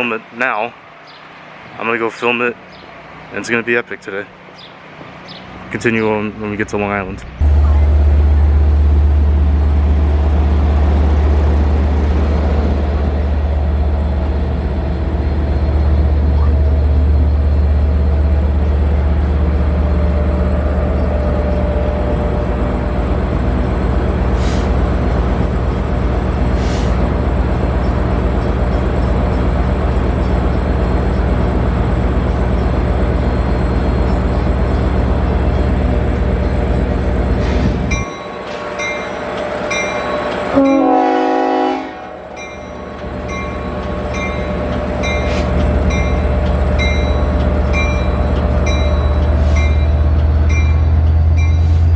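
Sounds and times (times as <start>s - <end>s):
train running with low drone: 0.0s - 51.9s.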